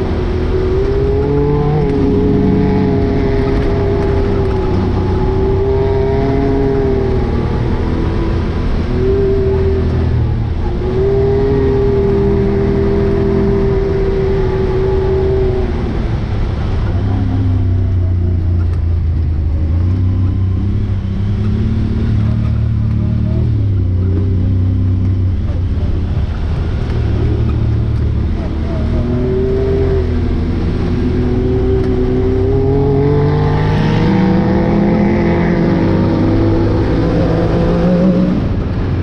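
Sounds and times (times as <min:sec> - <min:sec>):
utility vehicle engine revving: 0:00.0 - 0:39.0.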